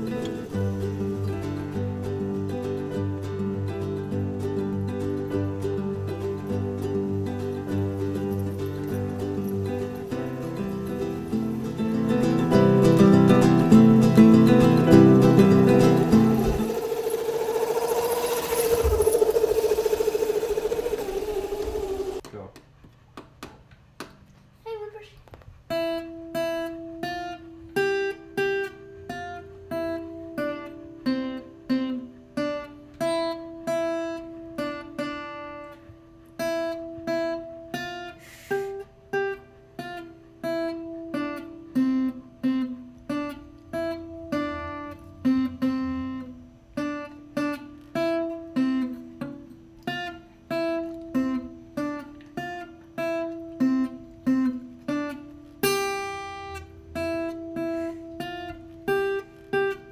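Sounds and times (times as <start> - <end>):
acoustic guitar picking: 0.0 - 22.2, 25.7 - 59.9.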